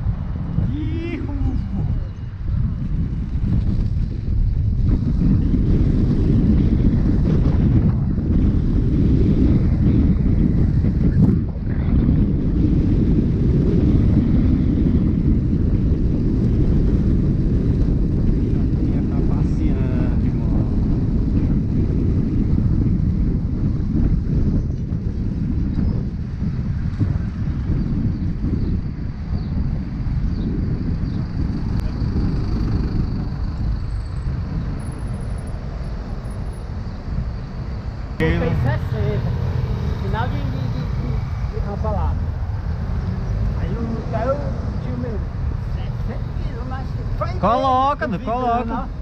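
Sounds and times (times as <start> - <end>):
city traffic passing: 0.0 - 23.8, 25.0 - 49.0
wind buffeting microphone: 0.0 - 49.0.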